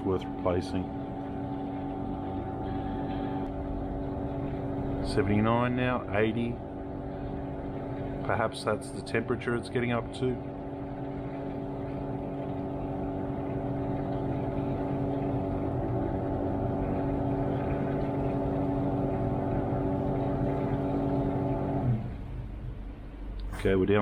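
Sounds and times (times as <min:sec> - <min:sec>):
dishwasher motor hum: 0:00.0 - 0:24.0.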